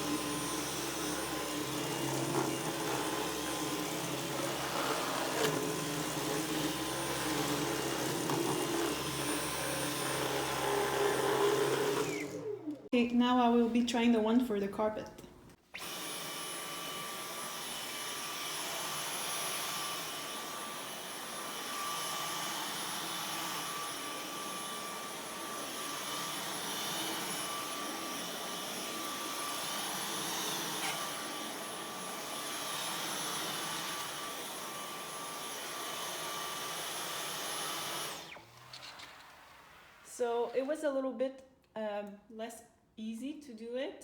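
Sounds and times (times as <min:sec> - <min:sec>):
stick vacuum running: 0:00.0 - 0:12.9, 0:15.8 - 0:40.6.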